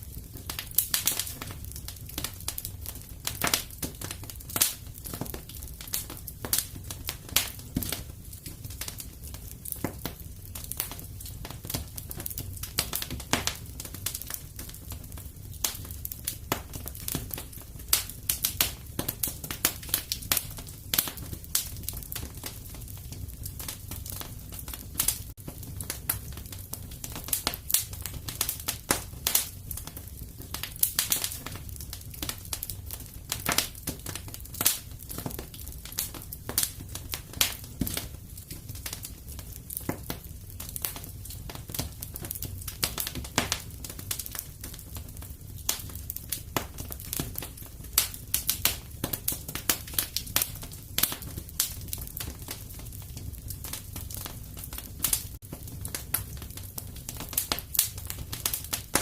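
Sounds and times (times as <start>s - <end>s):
fire crackling and popping: 0.0s - 59.0s
low rumble of flames: 0.0s - 59.0s.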